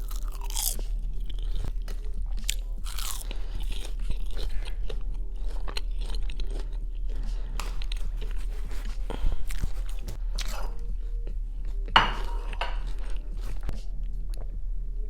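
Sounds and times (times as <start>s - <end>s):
crunchy food chewing: 0.0s - 14.5s
low electrical hum: 0.0s - 15.0s.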